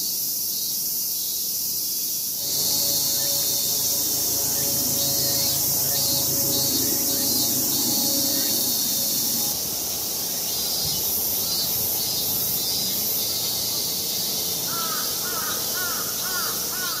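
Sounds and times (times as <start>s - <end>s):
steady high hiss: 2.1s - 16.7s.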